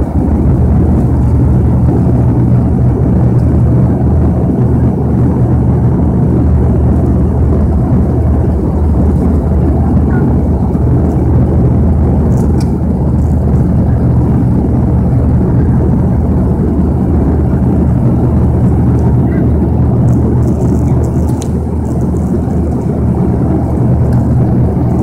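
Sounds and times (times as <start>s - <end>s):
propeller hum: 0.0s - 25.0s
turboprop engines droning: 0.0s - 25.0s.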